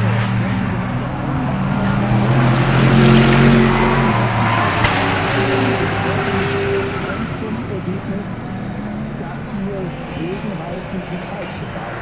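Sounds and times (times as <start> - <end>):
race cars passing: 0.0 - 12.0.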